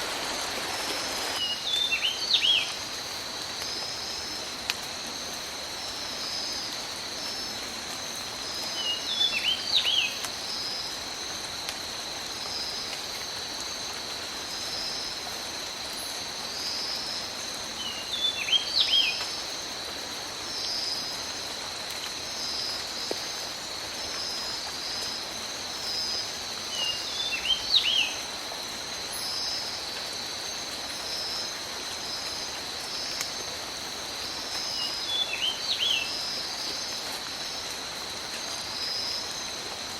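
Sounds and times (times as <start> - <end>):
pulsing insect chorus: 0.0 - 39.9
rain falling in forest: 0.0 - 39.9.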